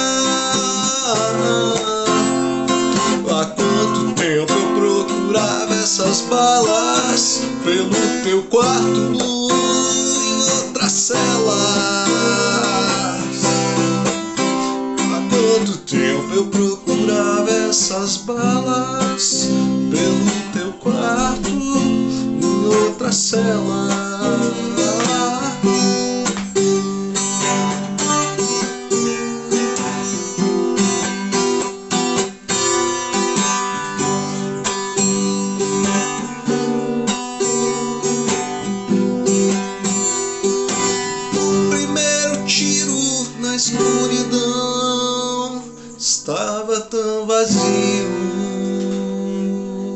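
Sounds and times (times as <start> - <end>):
acoustic guitar strumming: 0.0 - 49.9.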